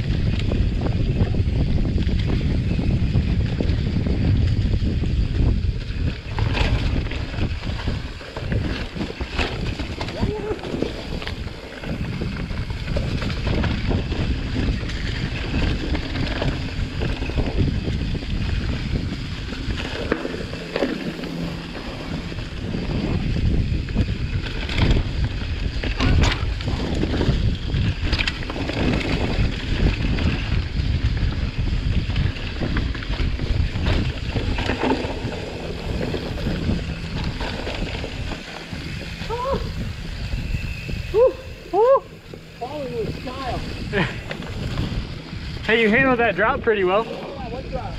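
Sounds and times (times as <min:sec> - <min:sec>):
bike knocks and rattles: 0:00.0 - 0:46.2
bike tyre noise: 0:00.0 - 0:47.9
wind on the microphone: 0:00.0 - 0:47.9.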